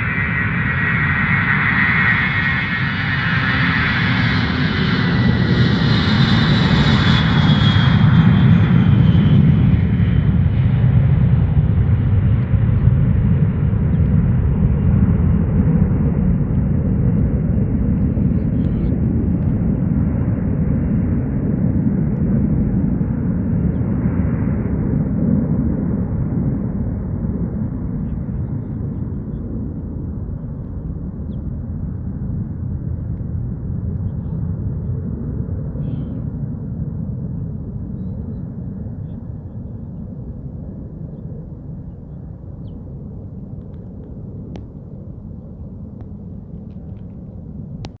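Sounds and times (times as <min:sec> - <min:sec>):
deep jet rumble: 0:00.0 - 0:48.0
jet roar with falling whine: 0:00.0 - 0:48.0.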